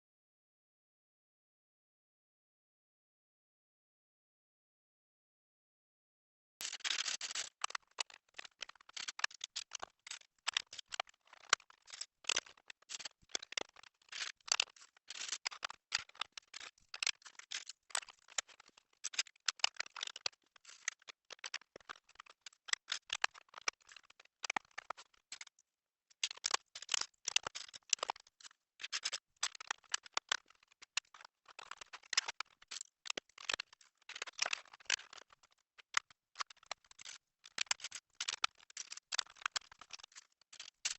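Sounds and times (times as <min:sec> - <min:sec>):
plastic bricks clicking and rattling: 0:06.6 - 0:40.9.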